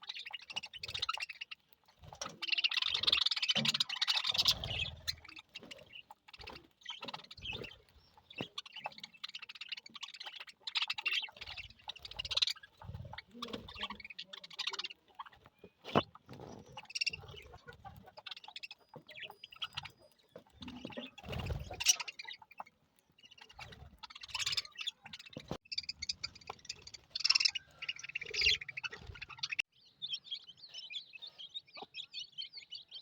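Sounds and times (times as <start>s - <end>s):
budgerigars chirping: 0.0s - 33.0s.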